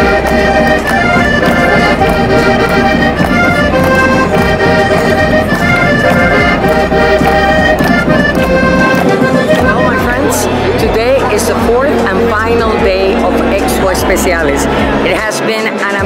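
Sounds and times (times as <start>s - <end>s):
button accordion playing: 0.0s - 15.4s
people clapping along: 0.0s - 16.0s.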